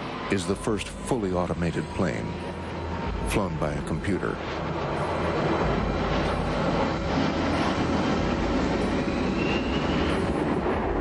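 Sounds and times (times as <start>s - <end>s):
faint rising whine: 0.0s - 11.0s
jet engines rumbling: 0.0s - 11.0s.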